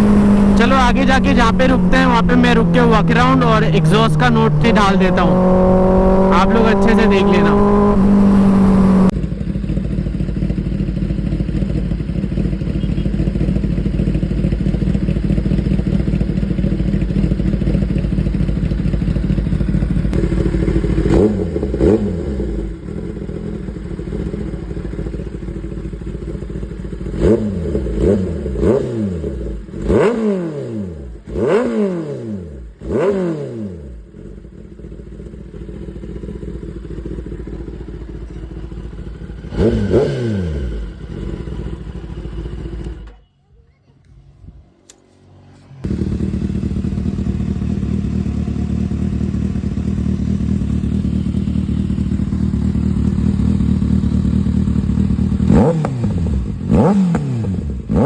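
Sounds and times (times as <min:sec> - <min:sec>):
motorcycle engine revving: 0:00.0 - 0:43.2, 0:44.0 - 0:58.0.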